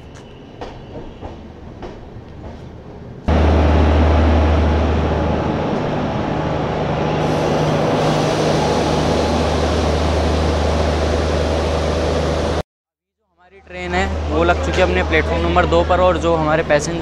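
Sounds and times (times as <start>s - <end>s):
train locomotive humming: 0.0s - 12.6s, 13.7s - 17.0s.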